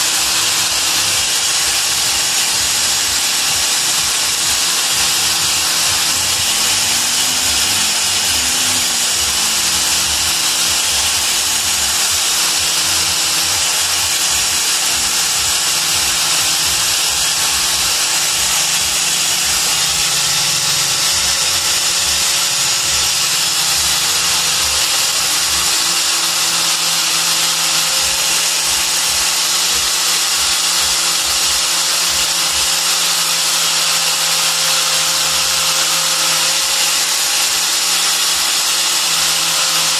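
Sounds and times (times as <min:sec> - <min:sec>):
angle grinder buffing: 0:00.0 - 0:39.9.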